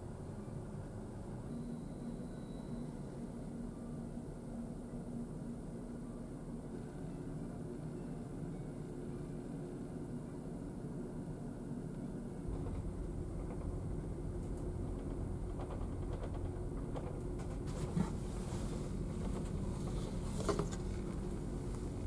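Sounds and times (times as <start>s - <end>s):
ferry engine low rumble: 0.0s - 22.0s.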